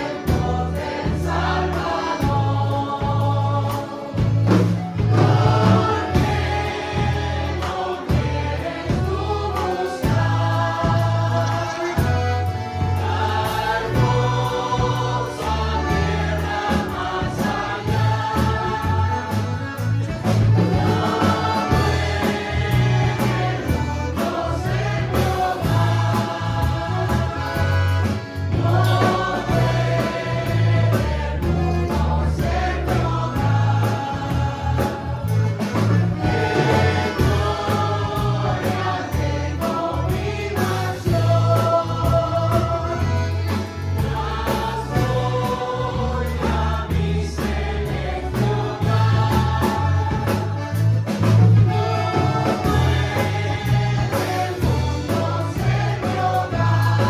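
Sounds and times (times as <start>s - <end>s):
small band playing: 0.0s - 57.0s
women singing a hymn: 0.0s - 57.0s.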